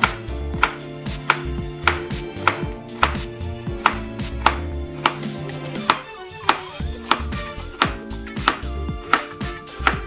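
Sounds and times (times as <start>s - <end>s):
background music: 0.0s - 10.0s
knife chopping on cutting board: 0.0s - 10.0s.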